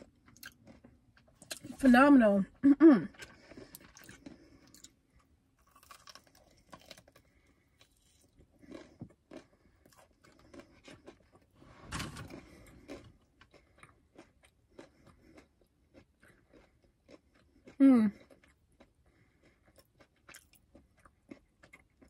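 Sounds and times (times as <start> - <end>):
crunchy chewing: 3.2 - 11.6, 12.3 - 22.0.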